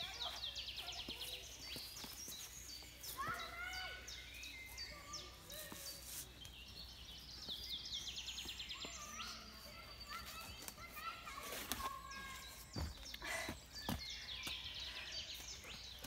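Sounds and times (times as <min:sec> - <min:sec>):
songbirds singing and trilling: 0:00.0 - 0:16.0.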